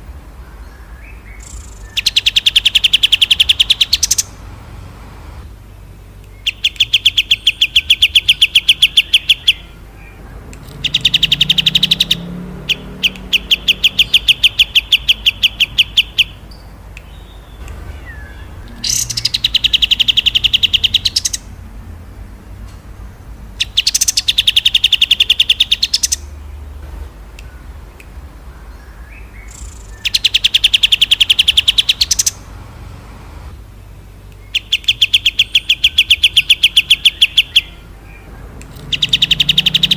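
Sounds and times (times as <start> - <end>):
faint low hum: 0.0 - 39.9
songbird rattling trills: 0.6 - 33.2.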